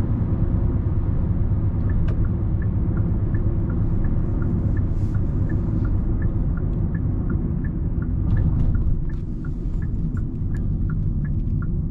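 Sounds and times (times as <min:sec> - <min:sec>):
car cabin road rumble: 0:00.0 - 0:11.9
turn signal clicking: 0:01.8 - 0:11.9.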